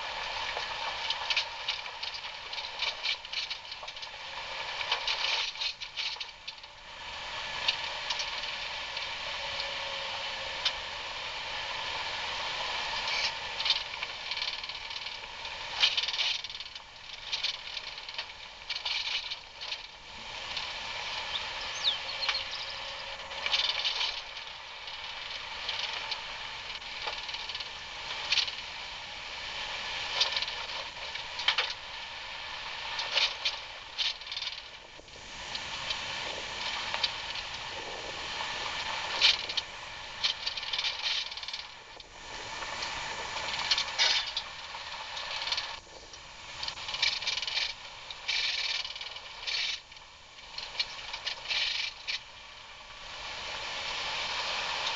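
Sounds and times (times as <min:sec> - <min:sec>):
vehicle driving on dirt trail: 0:00.0 - 0:54.9.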